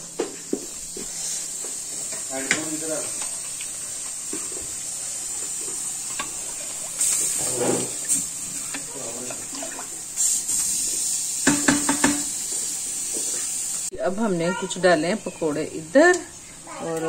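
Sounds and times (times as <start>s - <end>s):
food sizzling in hot oil: 0.0s - 16.4s.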